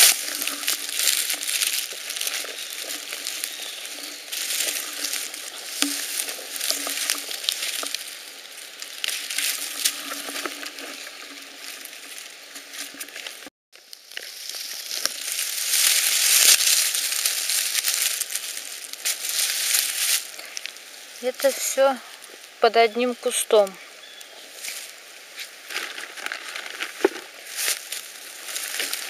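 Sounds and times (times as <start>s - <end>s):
dry leaves and twigs crackling: 0.0s - 29.0s.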